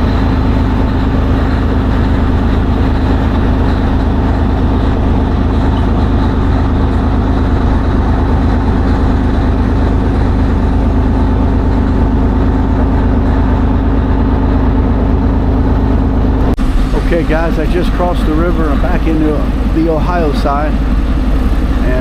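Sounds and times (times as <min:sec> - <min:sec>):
ferry diesel engine droning: 0:00.0 - 0:22.0.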